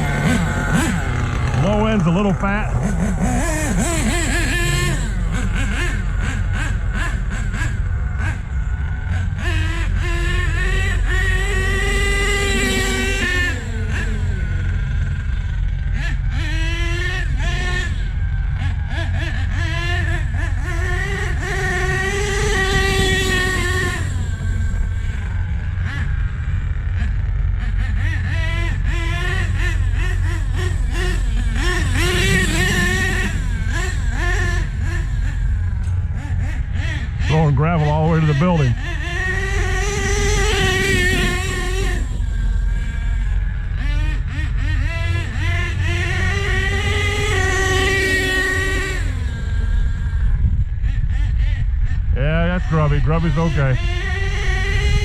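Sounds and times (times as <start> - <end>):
small nitro engine revving: 0.0 - 55.0.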